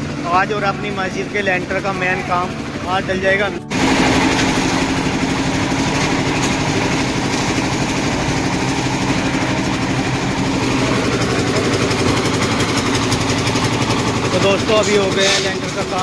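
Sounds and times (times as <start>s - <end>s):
concrete mixer running: 0.0s - 16.0s.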